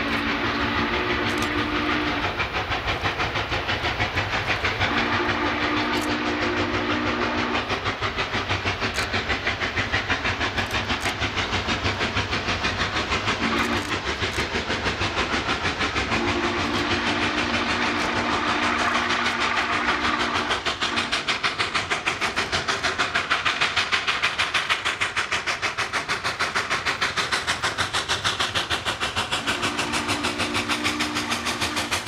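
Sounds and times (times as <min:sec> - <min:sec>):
steam locomotive exhaust beating: 0:00.0 - 0:32.0.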